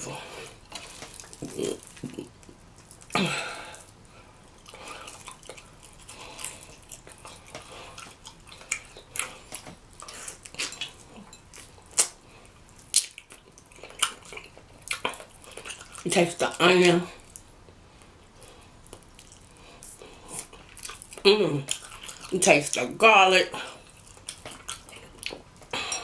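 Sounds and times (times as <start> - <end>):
wet chewing: 0.5 - 16.6, 18.5 - 22.9, 23.6 - 26.0.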